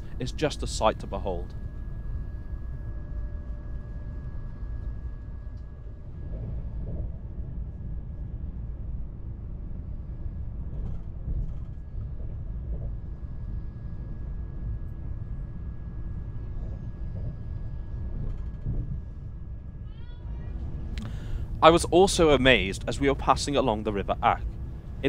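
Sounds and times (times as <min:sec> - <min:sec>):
faint high whine: 0:00.0 - 0:25.0
train low rumble inside coach: 0:00.0 - 0:25.0.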